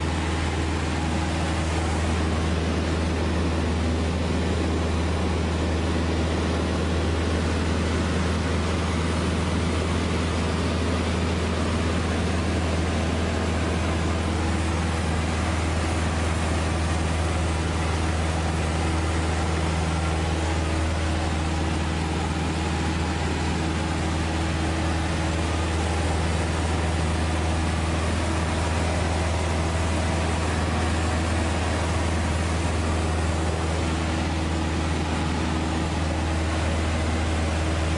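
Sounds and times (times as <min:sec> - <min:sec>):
engine drone: 0:00.0 - 0:37.9.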